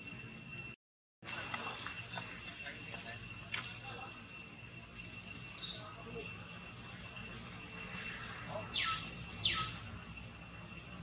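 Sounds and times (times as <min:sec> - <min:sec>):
faint pulsing chirps: 0:00.0 - 0:11.0
high-pitched insect drone: 0:00.0 - 0:11.0
downward sweeping calls: 0:01.3 - 0:11.0.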